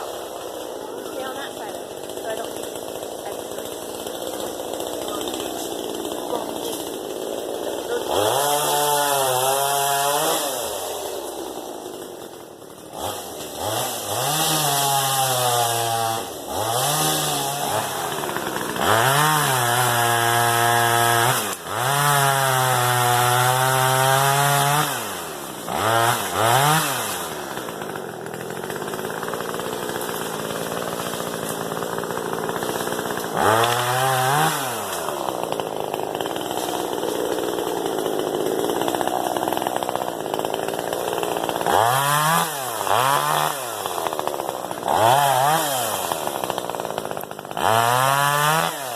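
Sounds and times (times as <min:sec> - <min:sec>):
chainsaw revving: 0:00.0 - 0:48.9.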